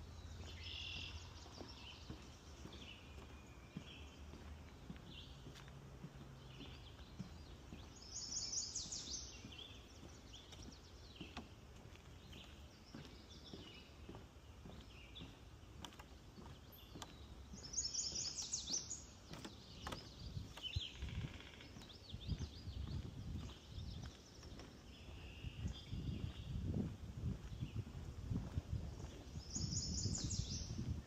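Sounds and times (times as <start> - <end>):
birds chirping softly: 0.0 - 31.0
footsteps on wooden boardwalk: 0.0 - 31.0.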